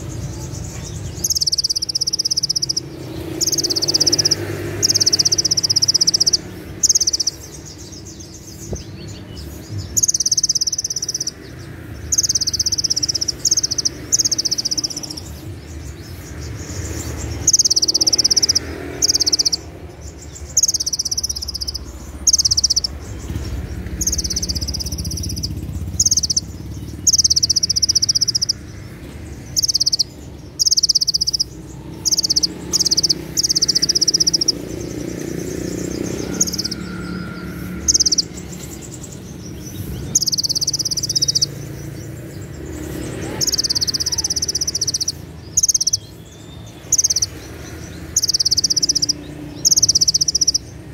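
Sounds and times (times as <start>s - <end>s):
sunbird shrill trilling song: 0.0s - 50.9s.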